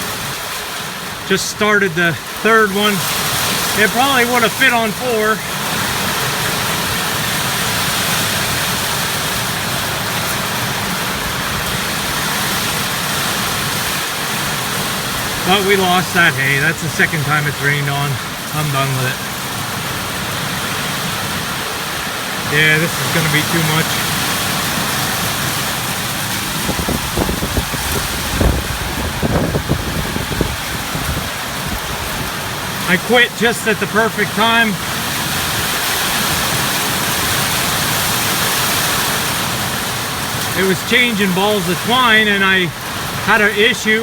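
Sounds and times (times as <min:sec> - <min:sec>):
steady rain downpour: 0:00.0 - 0:44.0.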